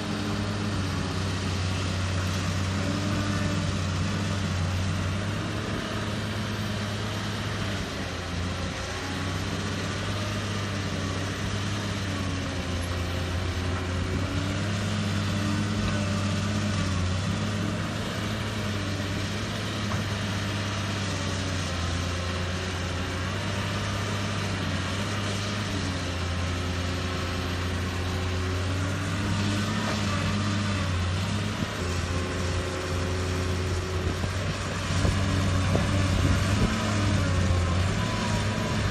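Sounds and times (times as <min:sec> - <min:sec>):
heavy diesel engine working: 0:00.0 - 0:38.9.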